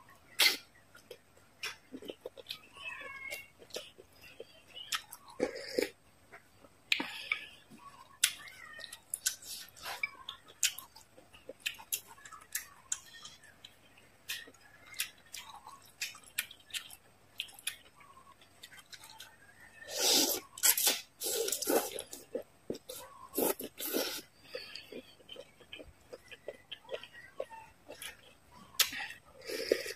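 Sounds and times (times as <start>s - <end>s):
mouth chewing food: 0.2s - 29.9s.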